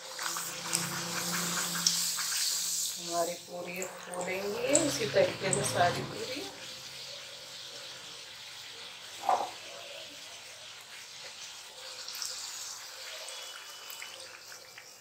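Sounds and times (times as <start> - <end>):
deep-frying sizzle in oil: 0.0 - 15.0.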